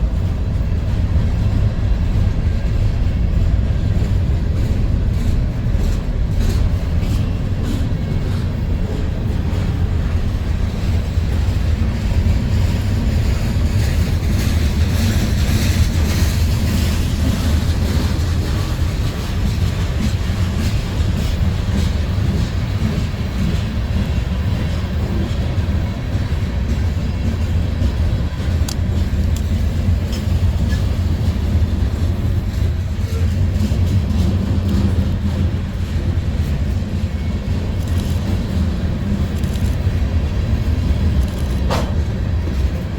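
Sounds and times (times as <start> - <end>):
train rumbling past: 0.0 - 42.9
wheels clicking over rail joints: 0.0 - 42.9.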